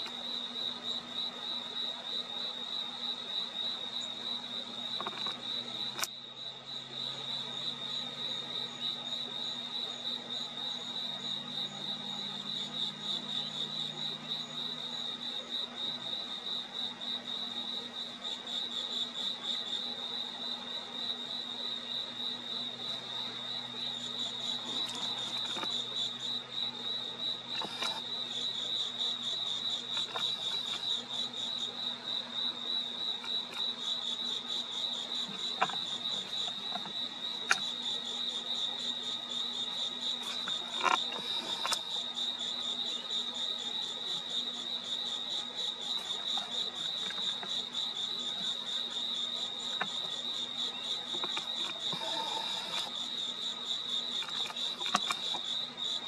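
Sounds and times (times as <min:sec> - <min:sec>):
crickets chirping: 0:00.0 - 0:56.0
high pulsing insect: 0:00.0 - 0:56.0.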